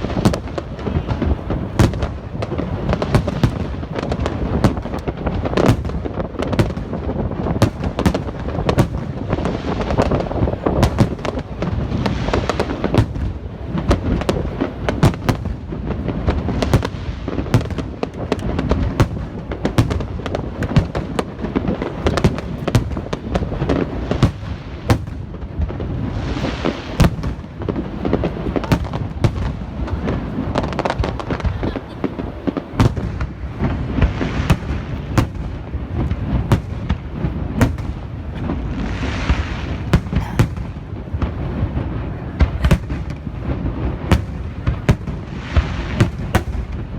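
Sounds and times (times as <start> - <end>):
fireworks bangs and pops: 0.0 - 46.9.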